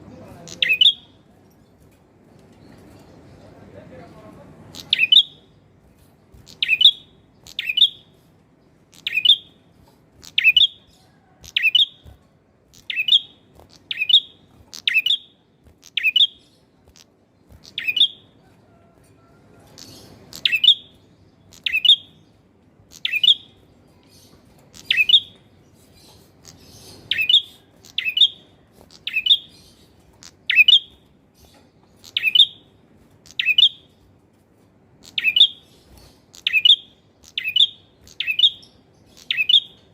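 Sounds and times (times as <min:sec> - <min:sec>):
bird chirping: 0:00.0 - 0:01.3, 0:02.3 - 0:34.1, 0:35.0 - 0:39.9.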